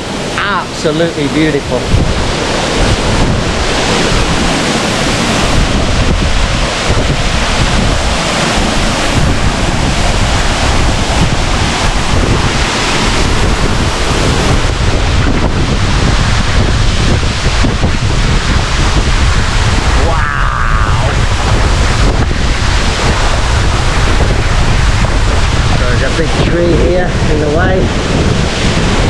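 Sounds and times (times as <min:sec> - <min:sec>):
waterfall rushing: 0:00.0 - 0:29.0
wind buffeting the microphone: 0:00.0 - 0:29.0.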